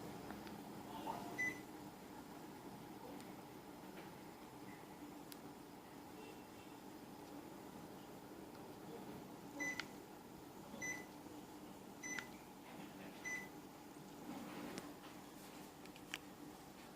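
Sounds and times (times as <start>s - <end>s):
air conditioner beeping: 0.0s - 15.5s
faint steady hum: 0.0s - 16.9s.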